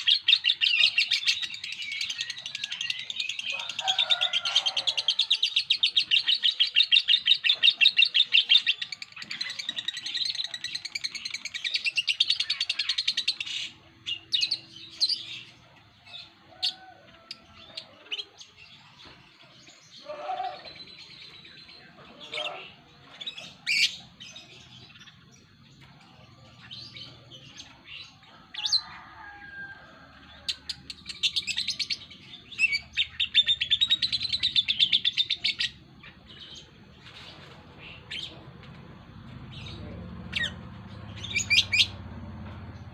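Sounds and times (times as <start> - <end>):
bird chirps: 0.0 - 29.0, 30.3 - 42.2.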